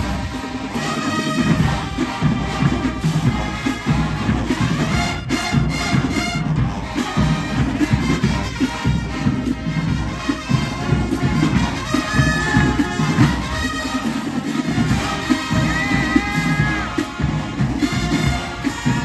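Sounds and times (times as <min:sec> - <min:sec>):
drumline drumming: 0:00.0 - 0:19.0
marching band brass: 0:00.0 - 0:19.0.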